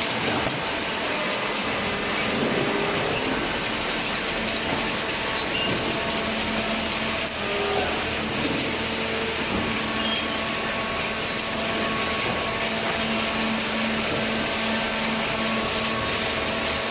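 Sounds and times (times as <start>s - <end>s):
baler machine running: 0.0s - 16.9s.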